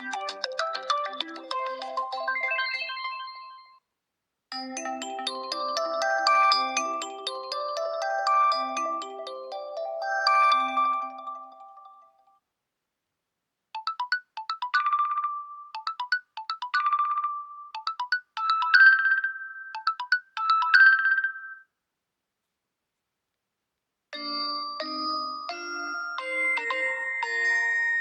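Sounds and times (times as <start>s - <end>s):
smartphone ringtone melody: 0.0s - 3.8s, 4.5s - 12.4s, 13.8s - 21.7s, 24.2s - 28.0s.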